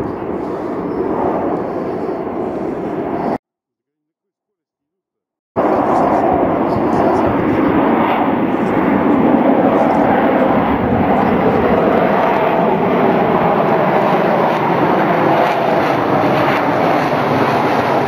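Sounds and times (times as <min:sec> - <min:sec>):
jet engines rushing: 0:00.0 - 0:03.4, 0:05.6 - 0:18.0.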